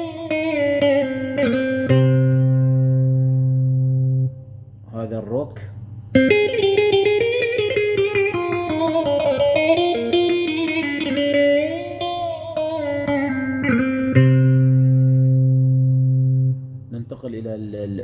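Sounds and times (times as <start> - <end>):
keyboard electric guitar melody: 0.0 - 4.6, 6.2 - 16.9.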